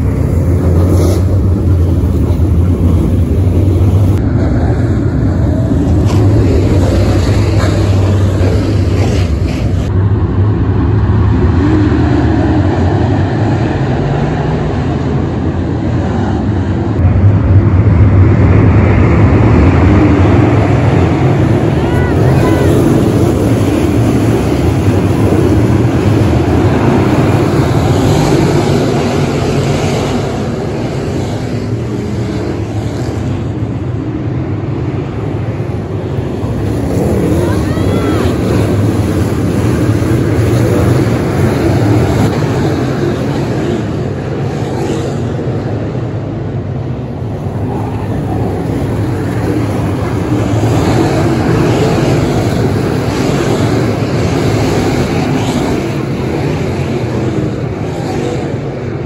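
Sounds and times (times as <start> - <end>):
race car engines droning: 0.0 - 59.0.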